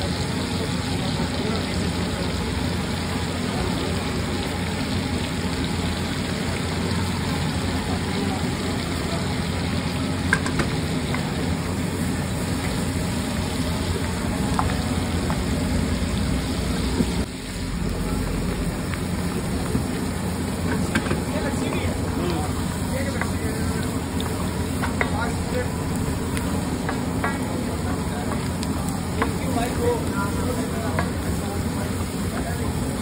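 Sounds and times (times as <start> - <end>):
oil sizzling on iron griddle: 0.0 - 33.0.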